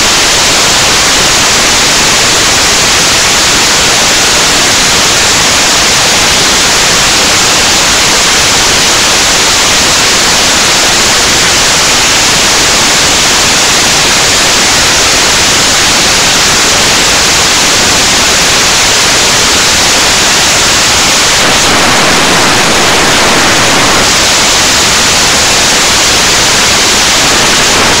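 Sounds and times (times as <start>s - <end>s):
static hiss: 0.0s - 28.0s.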